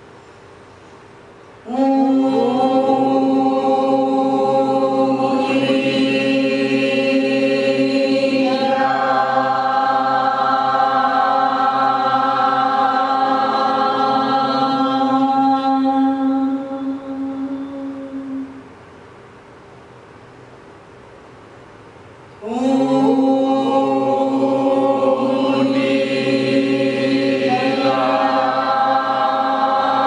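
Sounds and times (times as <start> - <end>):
voices chanting held notes: 1.6 - 18.6, 22.4 - 30.0.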